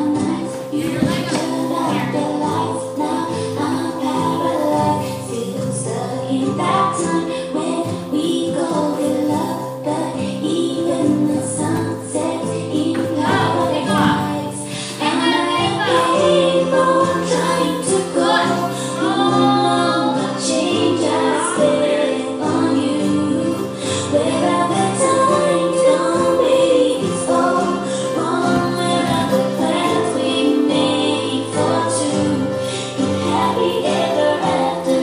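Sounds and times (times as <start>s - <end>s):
woman singing: 0.0s - 35.0s.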